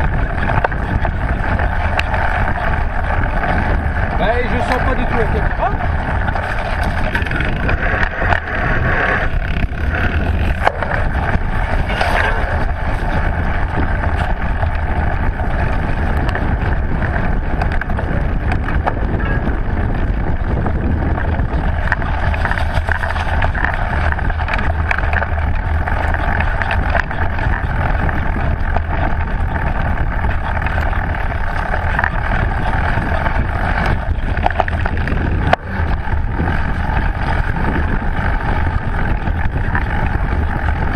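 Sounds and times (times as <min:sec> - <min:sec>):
bike knocks and rattles: 0:00.0 - 0:40.9
bike tyres on dirt trail: 0:00.0 - 0:40.9
wind noise on microphone: 0:00.0 - 0:40.9.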